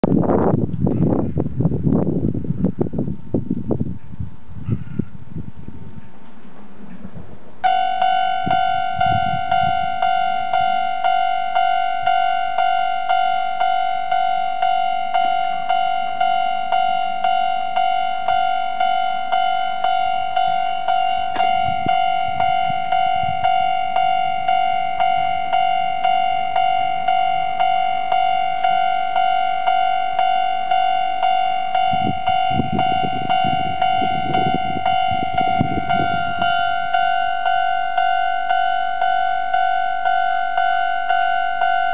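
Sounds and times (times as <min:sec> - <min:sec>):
low rumble: 0:00.0 - 0:11.4, 0:14.6 - 0:37.2
level-crossing alarm bell ringing: 0:07.6 - 0:41.9.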